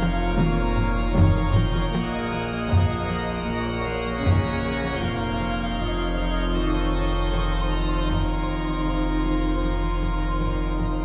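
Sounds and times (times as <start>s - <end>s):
low beats: 0.0s - 11.0s
organ-like chords: 0.0s - 11.0s.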